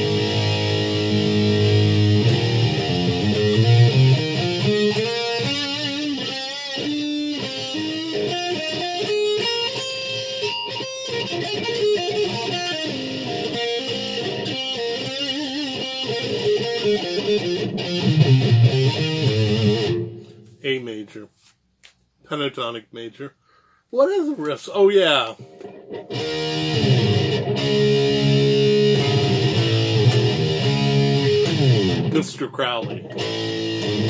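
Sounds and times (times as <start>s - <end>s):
distorted electric guitar lead: 0.0s - 20.4s, 25.4s - 34.0s.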